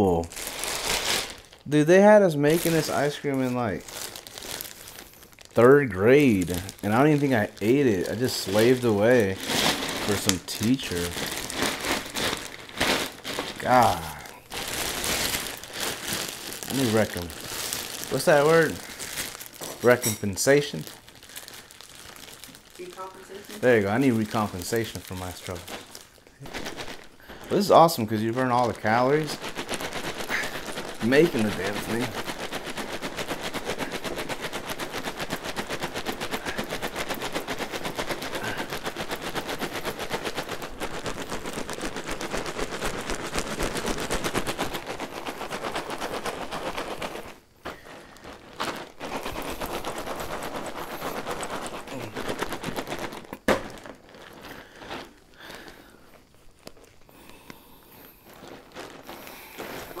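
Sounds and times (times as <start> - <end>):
ice and salt rattling in a bag: 0.0 - 60.0.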